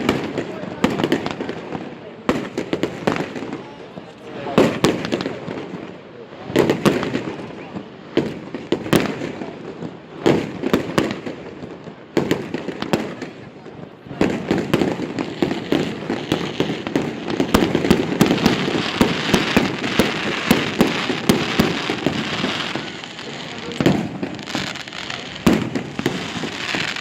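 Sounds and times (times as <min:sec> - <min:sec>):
fireworks bangs pops and crackling: 0:00.0 - 0:27.0.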